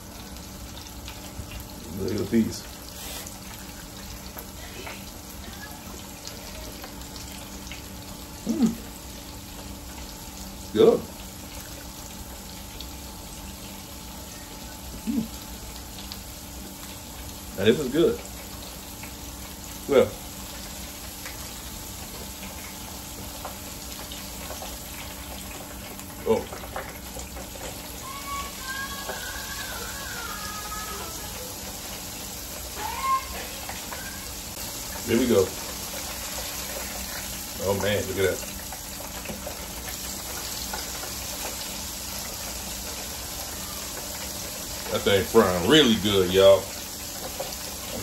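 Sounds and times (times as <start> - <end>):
oil sizzling and bubbling: 0.0 - 48.0.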